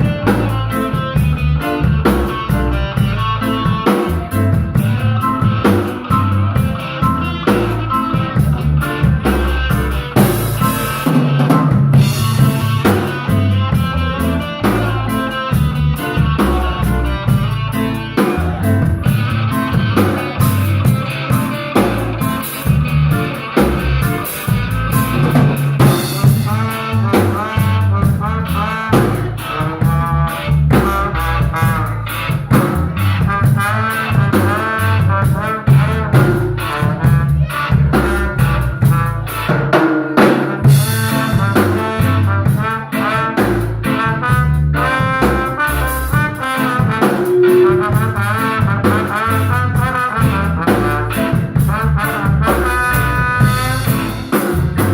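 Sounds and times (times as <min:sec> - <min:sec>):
bass: 0:00.0 - 0:54.9
drum kit with rimshots: 0:00.0 - 0:54.9
guitar: 0:00.0 - 0:54.9.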